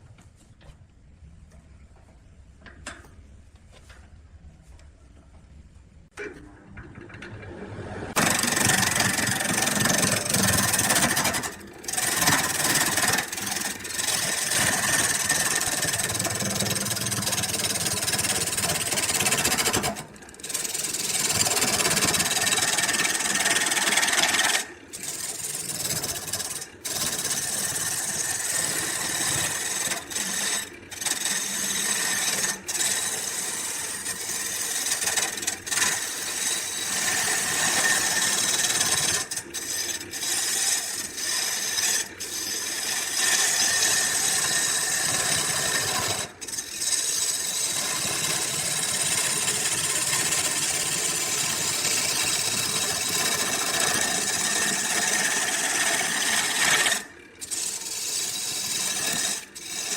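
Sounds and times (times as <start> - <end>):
power tool cutting wood: 8.1 - 59.9.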